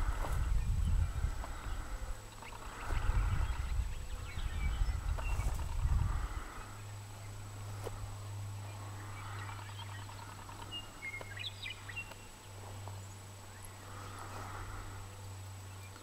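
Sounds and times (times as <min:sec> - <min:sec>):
bird trills: 0:00.0 - 0:07.5, 0:08.4 - 0:14.8
birds chirping and whistling: 0:00.0 - 0:16.0
low hum: 0:00.0 - 0:16.0.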